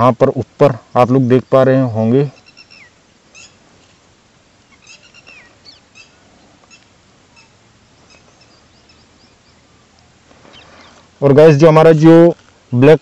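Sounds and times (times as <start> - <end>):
small birds chirping: 0.9 - 13.0.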